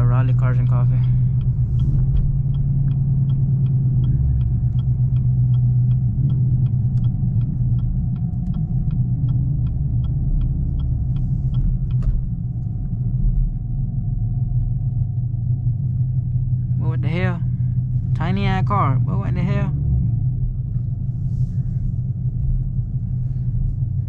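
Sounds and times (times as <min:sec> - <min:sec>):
car engine rumbling: 0:00.0 - 0:24.0
light regular ticking: 0:00.0 - 0:24.0.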